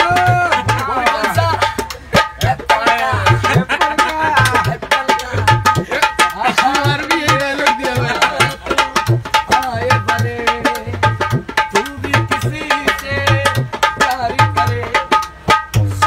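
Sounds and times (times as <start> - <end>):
hand drum beat: 0.0 - 16.0
man singing: 0.0 - 16.0.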